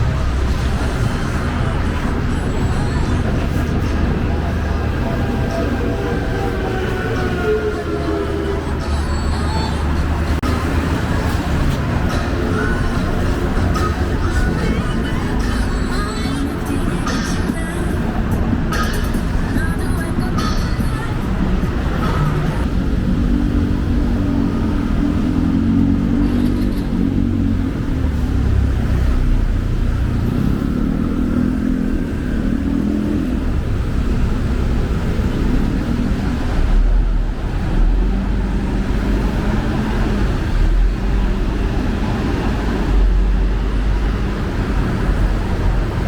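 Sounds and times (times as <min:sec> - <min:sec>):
vehicle engines rumbling: 0:00.0 - 0:46.0.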